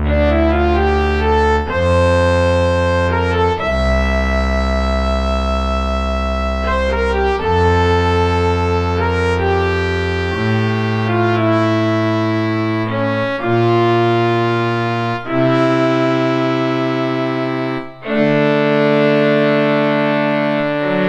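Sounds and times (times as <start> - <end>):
synthesizer brass chords: 0.0 - 21.0.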